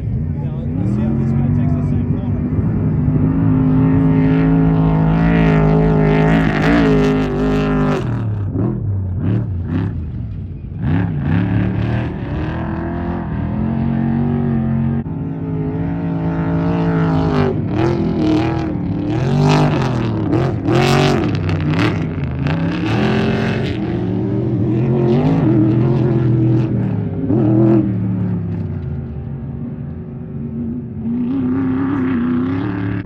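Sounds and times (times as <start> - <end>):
truck engine revving hard: 0.0 - 29.0, 30.5 - 33.0.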